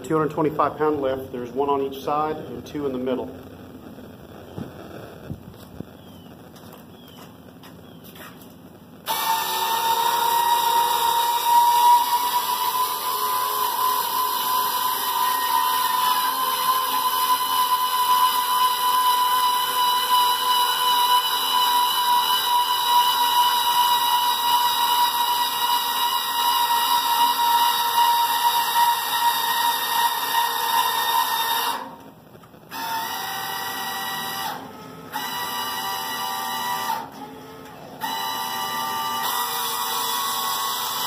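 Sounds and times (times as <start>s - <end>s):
electric actuators whining: 0.0s - 41.0s.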